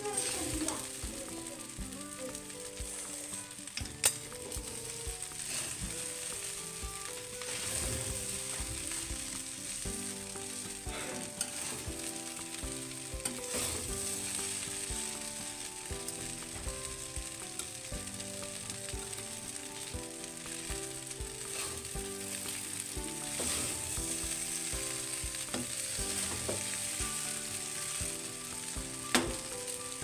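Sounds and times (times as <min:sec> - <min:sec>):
rice sizzling: 0:00.0 - 0:30.0.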